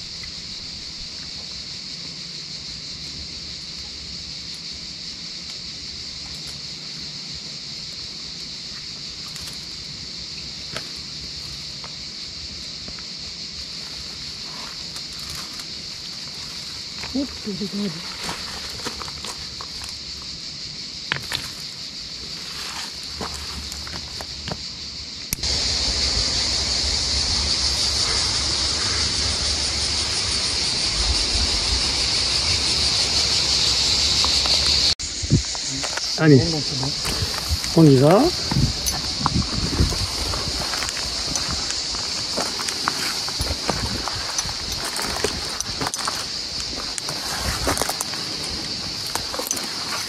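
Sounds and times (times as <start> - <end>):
cicadas singing: 0.0 - 50.0.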